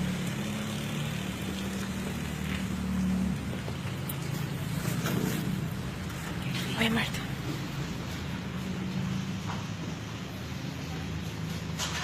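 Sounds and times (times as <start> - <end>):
street noise hiss: 0.0 - 12.0.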